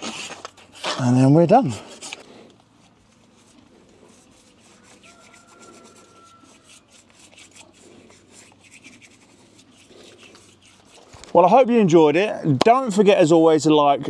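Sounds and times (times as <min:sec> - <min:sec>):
bristle brush rubbing strokes: 0:00.0 - 0:11.9.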